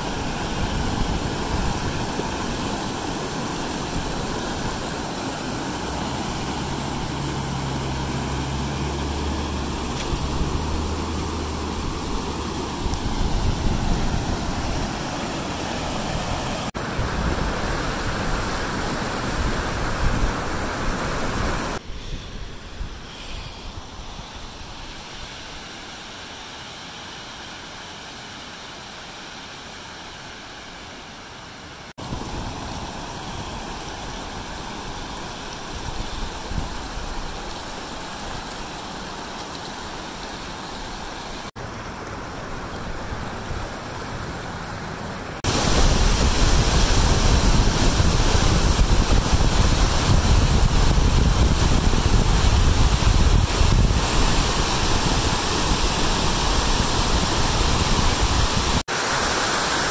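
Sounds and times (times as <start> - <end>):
deep rumble of water: 0.0 - 21.8, 32.0 - 58.8
water rushing over rocks: 0.0 - 21.9, 23.8 - 59.9.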